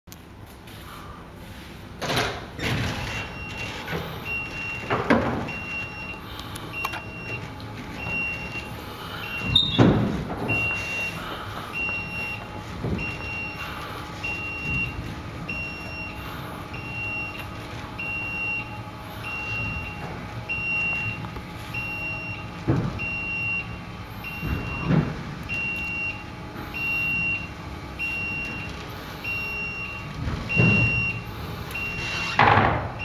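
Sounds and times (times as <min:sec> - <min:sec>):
high warning beeper: 0:03.1 - 0:09.8, 0:10.4 - 0:32.4.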